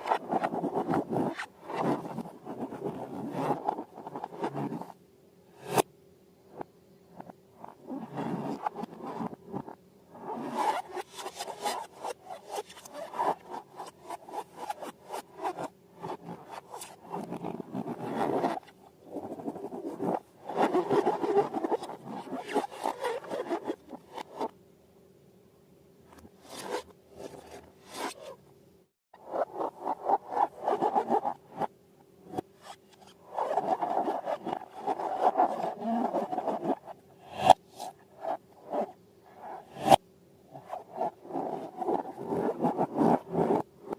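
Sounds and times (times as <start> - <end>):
rubbing and scraping balloons and slime: 0.0 - 5.0, 6.5 - 24.5, 26.2 - 28.4, 29.2 - 31.7, 32.3 - 43.9.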